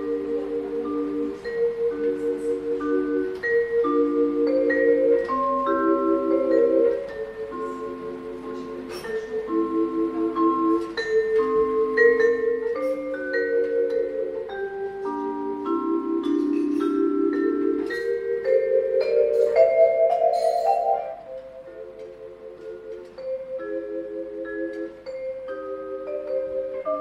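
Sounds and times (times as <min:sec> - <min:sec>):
solo vibraphone: 0:00.0 - 0:27.0.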